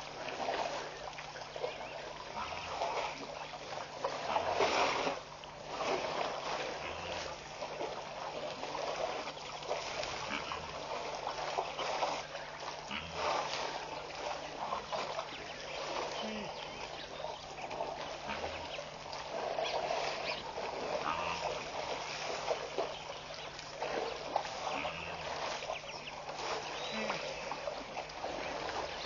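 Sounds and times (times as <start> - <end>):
steady low hum: 0.0 - 29.0
water splashing and trickling: 0.0 - 29.0.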